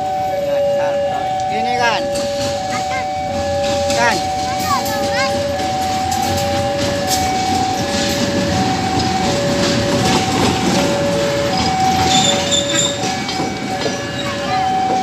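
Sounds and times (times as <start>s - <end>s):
level crossing alarm tones: 0.0s - 15.0s
train rumbling on tracks: 0.0s - 15.0s.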